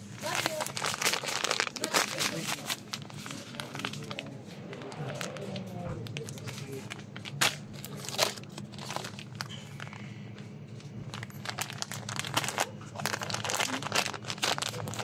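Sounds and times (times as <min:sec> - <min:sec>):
plastic sachets crinkling: 0:00.0 - 0:15.0.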